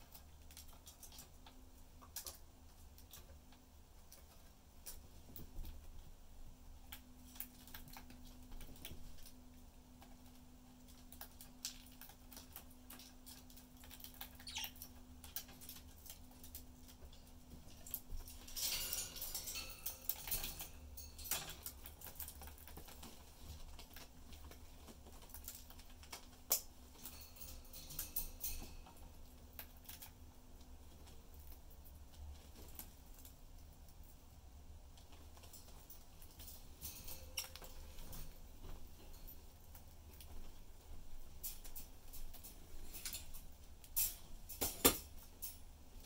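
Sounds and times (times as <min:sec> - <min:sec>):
budgies clicking and scratching: 0:00.0 - 0:45.5.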